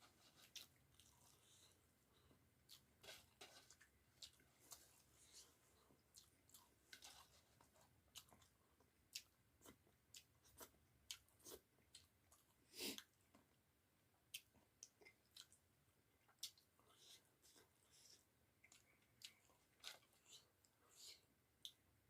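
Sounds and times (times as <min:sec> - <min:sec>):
faint chewing with mouth clicks: 0:00.0 - 0:22.0.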